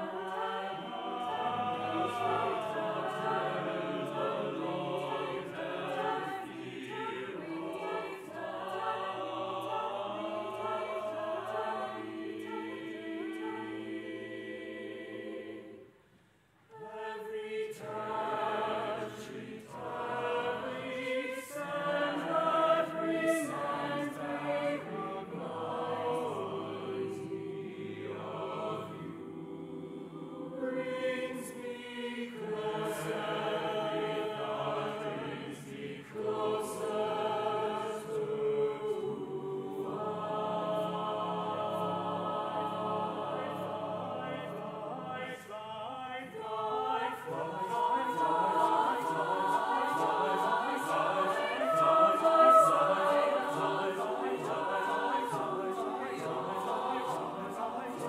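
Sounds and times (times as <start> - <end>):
mixed choir singing: 0.0 - 16.1, 16.7 - 58.0.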